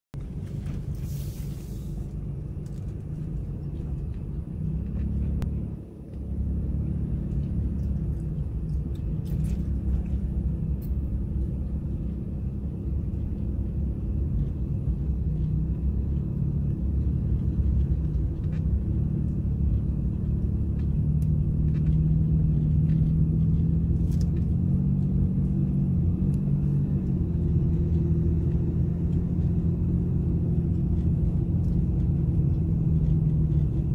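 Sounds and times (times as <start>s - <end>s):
vehicle engine and tyres rumbling: 0.1s - 33.9s.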